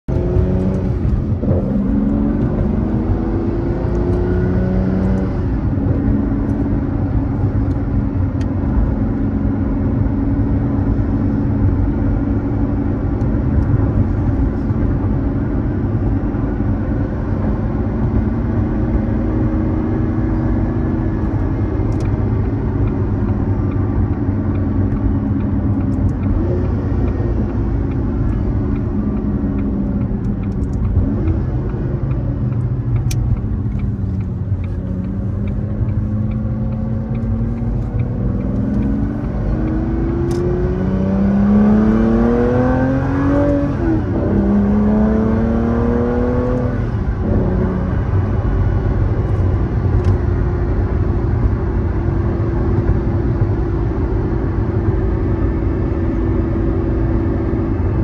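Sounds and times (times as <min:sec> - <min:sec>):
car engine accelerating: 0:00.1 - 0:58.0.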